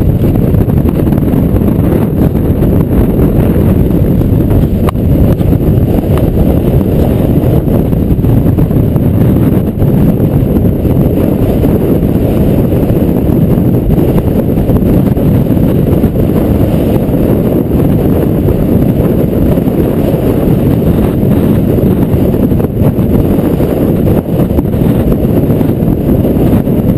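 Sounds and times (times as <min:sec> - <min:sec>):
strong wind on microphone: 0:00.0 - 0:26.9.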